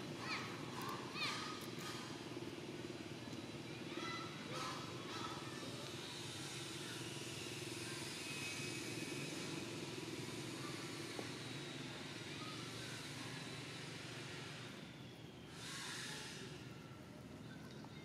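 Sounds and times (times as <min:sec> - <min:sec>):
low engine-like hum: 0:00.0 - 0:18.0.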